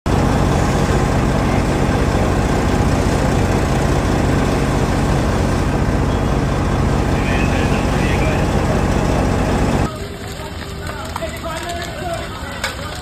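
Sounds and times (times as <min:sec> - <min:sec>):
large engine idling: 0:00.1 - 0:10.6.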